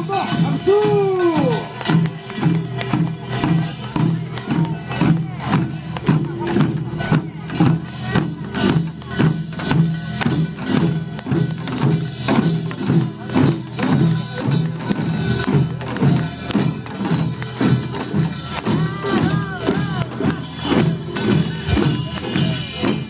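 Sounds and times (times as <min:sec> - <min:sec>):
percussion band drumming: 0:00.0 - 0:23.0.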